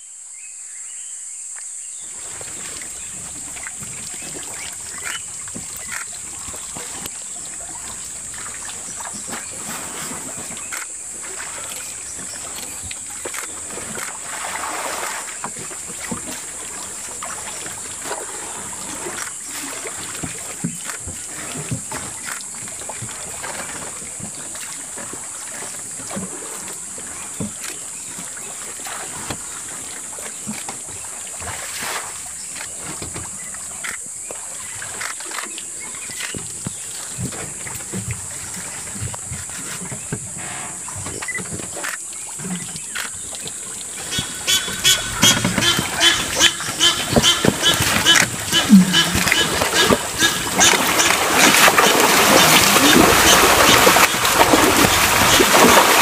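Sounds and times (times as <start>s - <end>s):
water splashing and sloshing: 2.0s - 56.0s.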